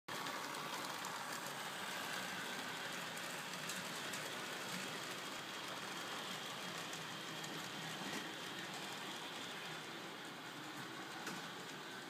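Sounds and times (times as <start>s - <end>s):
model train motor whirring: 0.1s - 12.0s
wheels clicking on rails: 0.1s - 12.0s.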